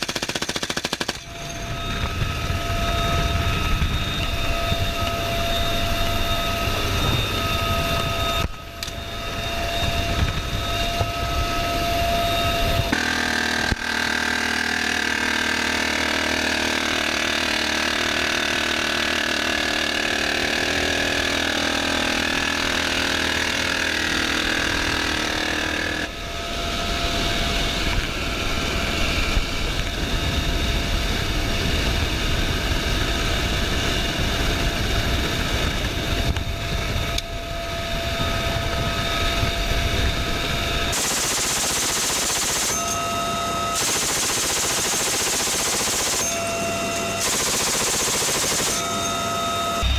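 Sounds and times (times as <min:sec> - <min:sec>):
helicopter rotor and turbine noise: 0:00.0 - 0:49.9.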